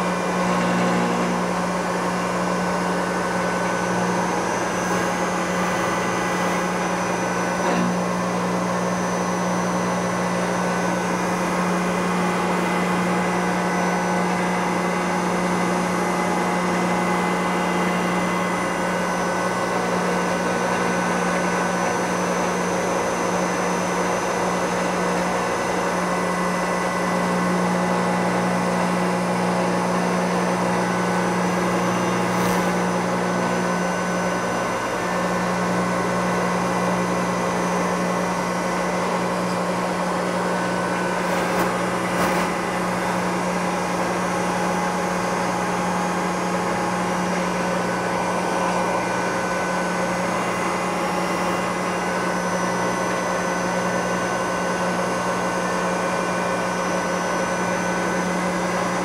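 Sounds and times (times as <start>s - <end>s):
milling machine spindle hum: 0.0s - 59.0s.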